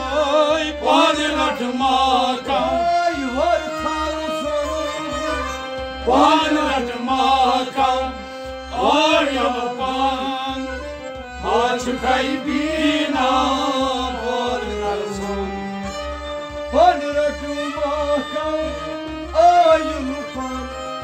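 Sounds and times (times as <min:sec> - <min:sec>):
man singing: 0:00.0 - 0:15.6, 0:16.7 - 0:21.0
harmonium held notes: 0:00.0 - 0:21.0.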